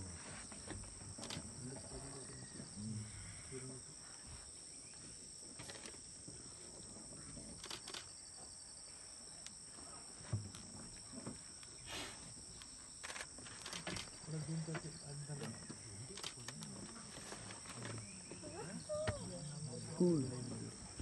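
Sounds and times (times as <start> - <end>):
insect chorus drone: 0.0 - 21.0.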